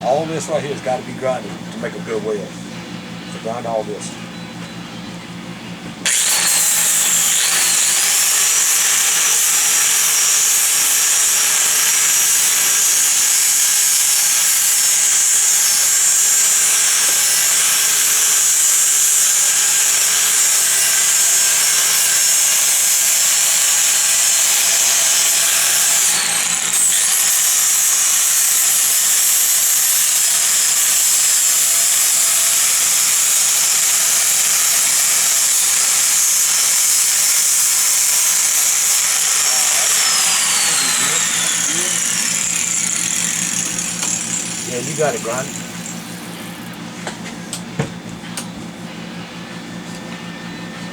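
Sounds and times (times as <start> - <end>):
power grinder grinding metal: 6.0 - 47.6.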